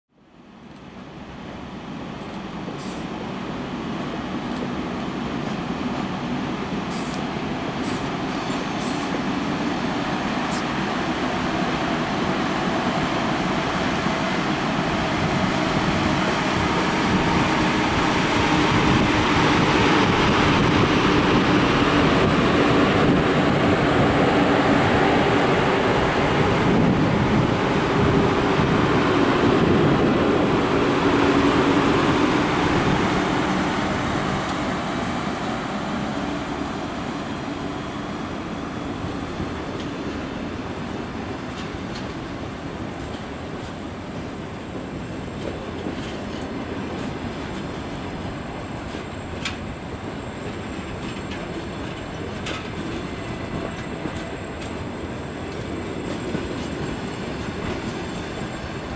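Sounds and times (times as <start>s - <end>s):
electric train rumbling on rails: 0.1s - 58.9s.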